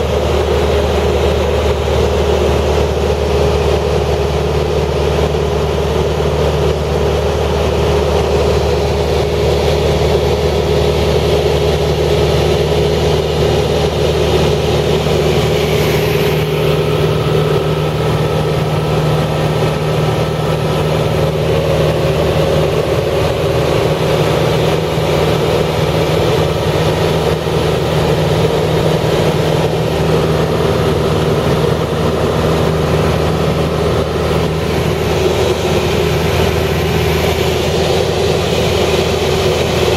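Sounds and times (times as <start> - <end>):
machine engine humming steadily: 0.0 - 39.9.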